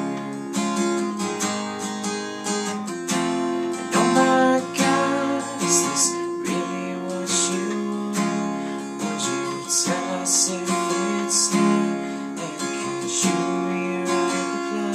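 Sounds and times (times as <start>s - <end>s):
acoustic guitar strumming chords: 0.0s - 14.9s.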